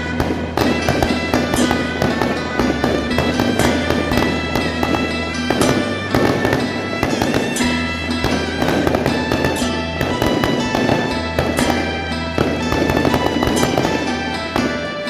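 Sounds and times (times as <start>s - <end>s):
firecrackers crackling: 0.0s - 15.0s
loud procession music: 0.0s - 15.0s.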